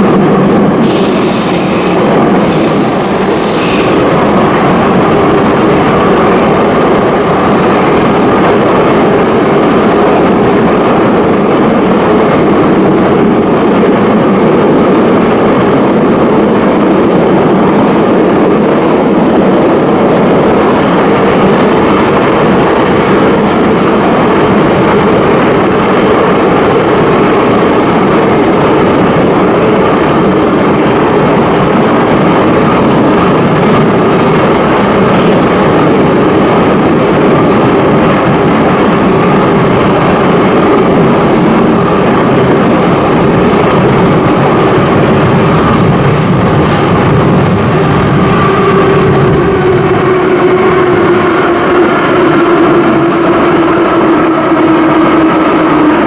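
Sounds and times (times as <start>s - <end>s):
metro train wheels rumbling: 0.0s - 56.0s.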